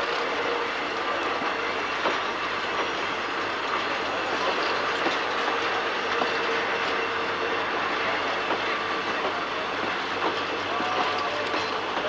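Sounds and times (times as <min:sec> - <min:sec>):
train wheels clicking over rail joints: 0:01.3 - 0:12.0.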